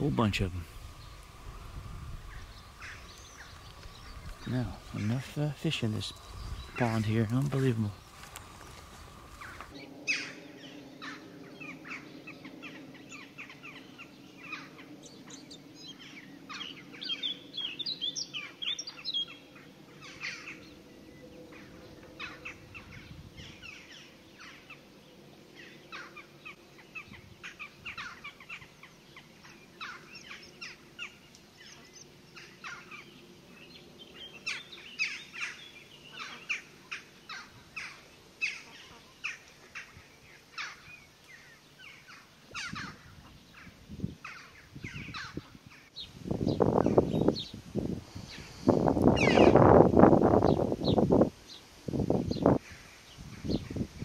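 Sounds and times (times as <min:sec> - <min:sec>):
songbirds chirping and singing: 0:00.0 - 0:47.6, 0:48.2 - 0:54.0.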